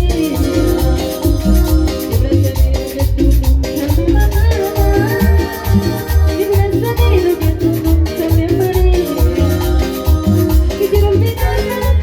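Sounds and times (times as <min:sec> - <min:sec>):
amplified latin dance music: 0:00.0 - 0:12.0.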